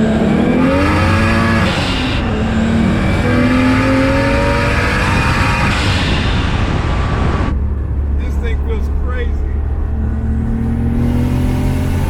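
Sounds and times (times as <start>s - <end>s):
car engine while driving: 0.0s - 12.0s.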